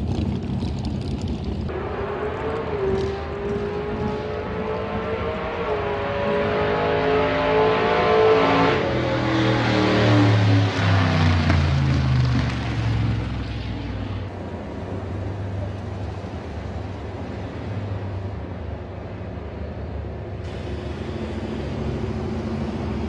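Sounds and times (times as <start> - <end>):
distant engine rumble: 0.0 - 6.6, 9.2 - 23.0
loud car engine: 0.0 - 18.8, 20.3 - 23.0.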